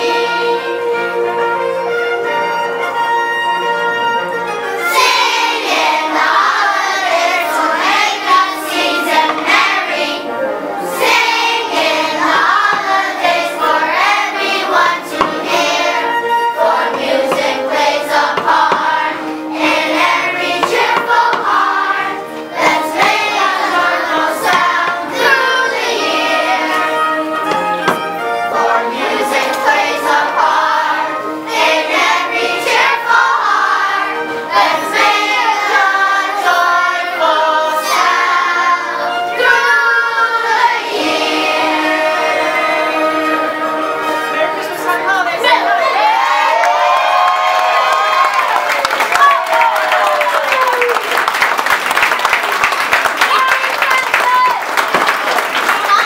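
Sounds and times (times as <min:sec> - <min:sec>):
children's choir singing: 0:00.0 - 0:03.2, 0:04.4 - 0:56.0.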